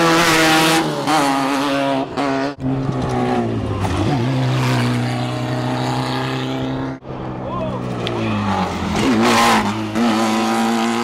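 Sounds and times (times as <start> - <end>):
buggy engines revving: 0.0 - 11.0.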